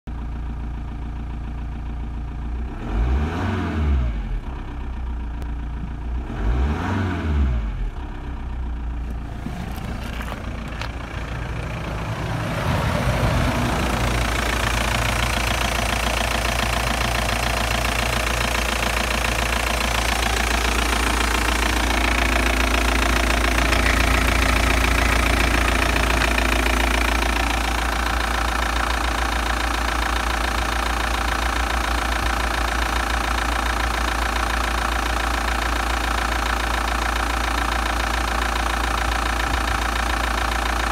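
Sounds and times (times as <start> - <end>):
diesel engine idling: 0.1 - 40.9.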